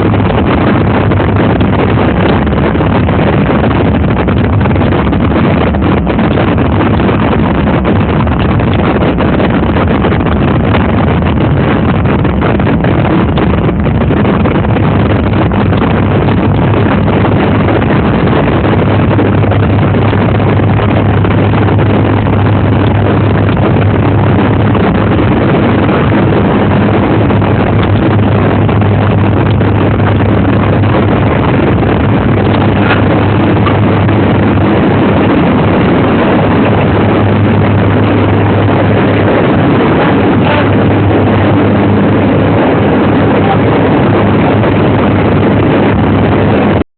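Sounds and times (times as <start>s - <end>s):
heavy rushing noise: 0.0s - 46.8s
loud engine drone: 0.0s - 46.8s
low hum: 0.0s - 46.8s.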